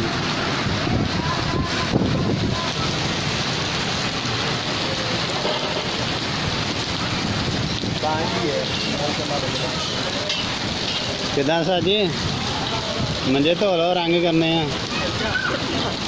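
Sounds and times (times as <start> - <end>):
heavy rain on wet street: 0.0 - 16.0.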